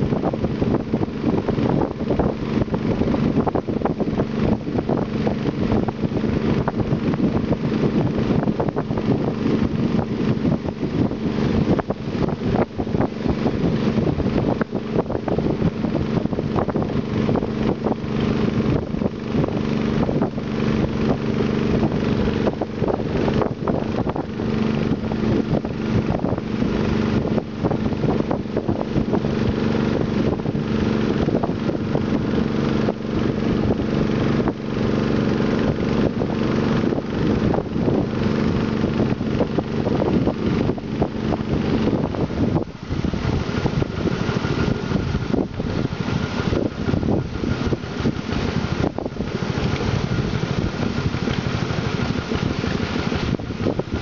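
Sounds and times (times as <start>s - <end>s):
boat engine humming: 0.0s - 54.0s
wind on microphone: 0.0s - 54.0s.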